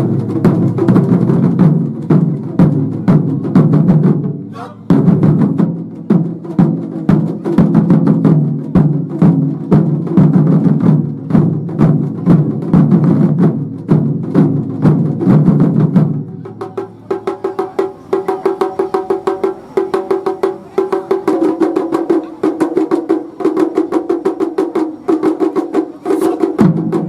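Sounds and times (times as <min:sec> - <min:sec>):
taiko drums playing fast: 0:00.0 - 0:27.0.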